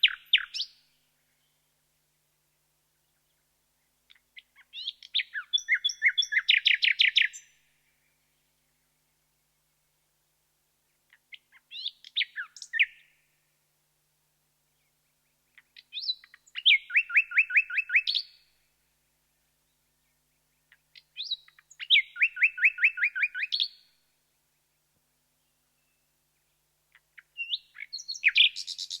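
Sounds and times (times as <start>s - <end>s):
nightingale singing: 0.0s - 1.7s, 2.9s - 9.6s, 10.9s - 13.2s, 14.7s - 18.6s, 19.4s - 29.0s.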